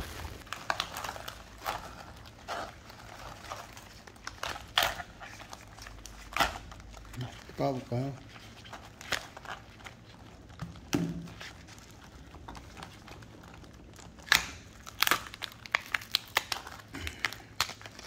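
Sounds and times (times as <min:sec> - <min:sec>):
crab shell cracking and crunching: 0:00.0 - 0:18.0.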